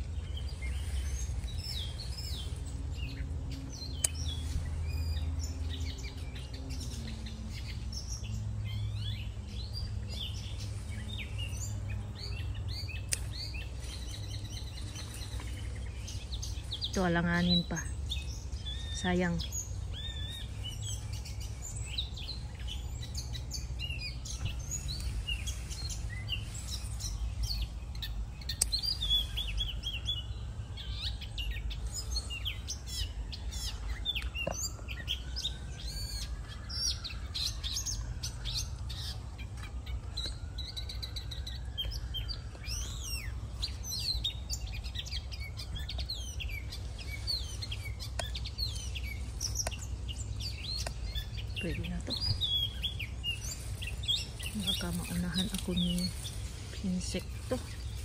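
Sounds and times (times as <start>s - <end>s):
small birds chirping: 0.0s - 58.0s
steady low rumble: 0.0s - 58.0s.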